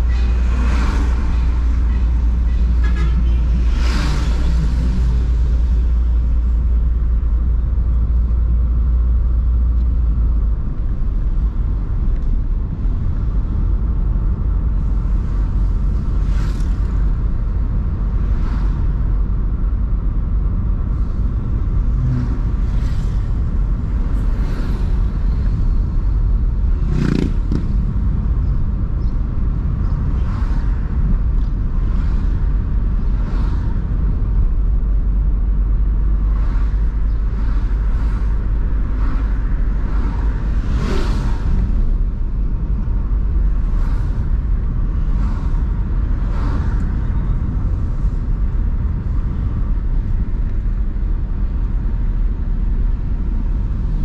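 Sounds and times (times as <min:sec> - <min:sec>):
low road rumble: 0:00.0 - 0:54.0
traffic whooshing by: 0:00.0 - 0:54.0.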